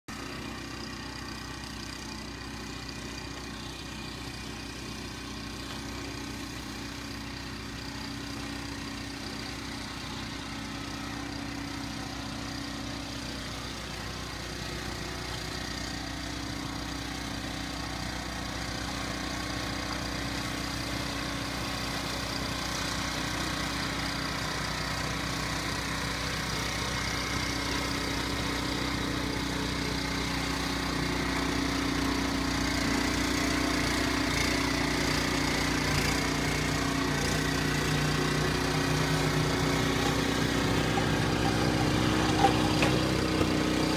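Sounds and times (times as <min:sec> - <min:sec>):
snowblower engine running: 0:00.1 - 0:43.9.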